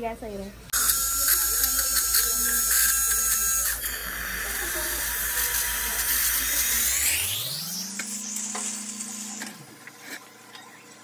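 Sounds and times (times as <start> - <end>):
dental motor hum: 0.7 - 9.8.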